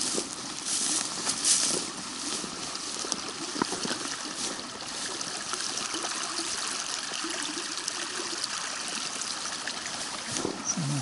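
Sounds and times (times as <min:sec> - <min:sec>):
creek trickling over pebbles: 0:00.0 - 0:11.0
water gurgles: 0:02.0 - 0:11.0.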